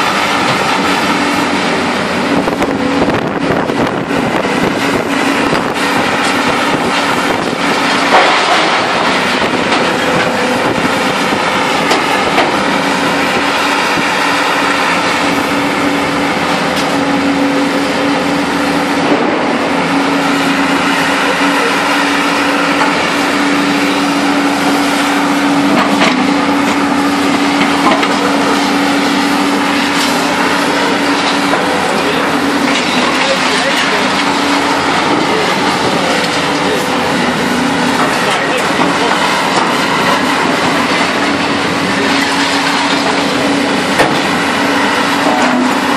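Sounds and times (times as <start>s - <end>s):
diesel engine hum: 0.0s - 45.9s.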